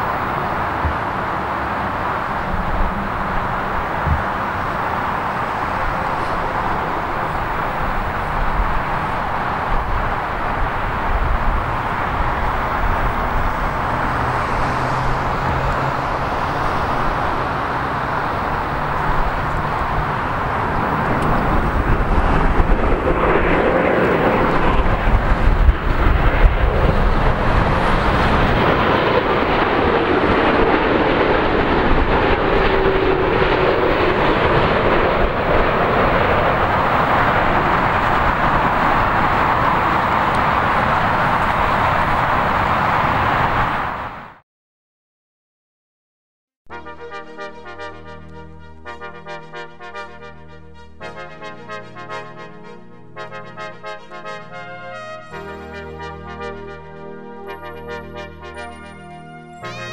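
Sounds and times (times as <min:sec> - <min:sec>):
jet engines roaring overhead: 0:00.0 - 0:44.4, 0:46.8 - 0:59.9.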